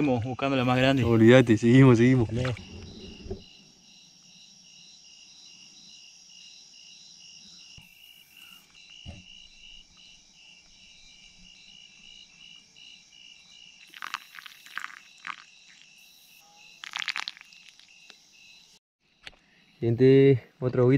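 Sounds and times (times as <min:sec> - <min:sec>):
insects chirping in trills: 0:00.5 - 0:20.4.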